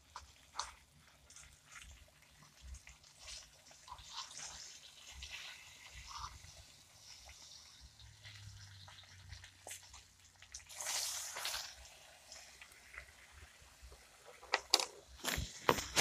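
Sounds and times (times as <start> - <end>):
meat sizzling in a pan: 0.0 - 15.2.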